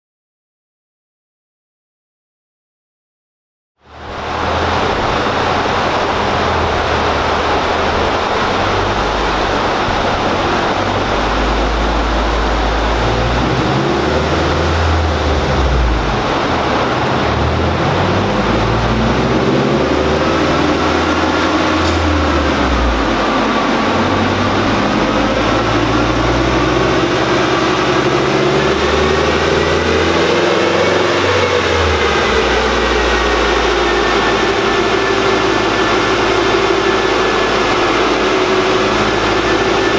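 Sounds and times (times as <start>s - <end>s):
car engine on dyno: 3.8s - 39.9s
loud rushing noise: 3.8s - 39.9s.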